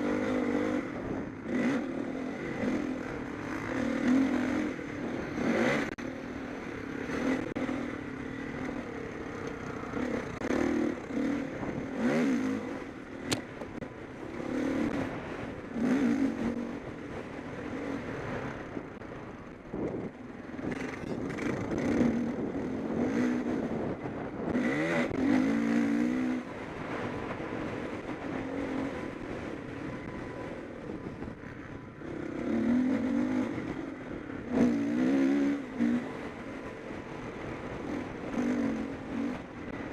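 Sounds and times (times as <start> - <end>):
motocross bikes revving: 0.0 - 18.8, 20.5 - 30.6, 31.4 - 39.9.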